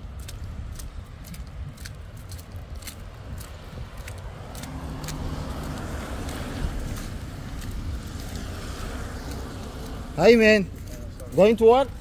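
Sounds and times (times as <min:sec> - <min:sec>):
low vehicle engine rumble: 0:00.0 - 0:12.0
steady engine hum: 0:00.0 - 0:12.0.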